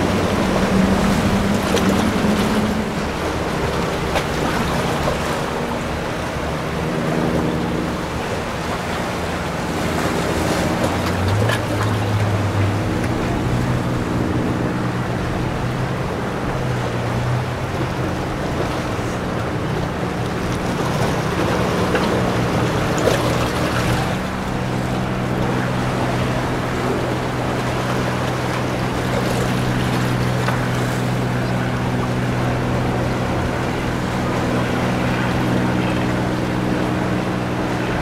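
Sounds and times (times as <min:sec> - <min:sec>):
motorboat engines humming: 0:00.0 - 0:38.0
waves rushing: 0:00.0 - 0:38.0.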